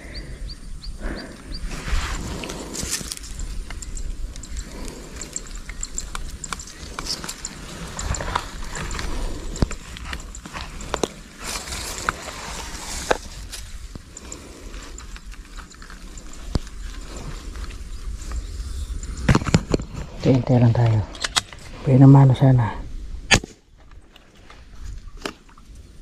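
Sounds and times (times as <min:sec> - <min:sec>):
rustling grass and leaves: 0:01.0 - 0:22.3.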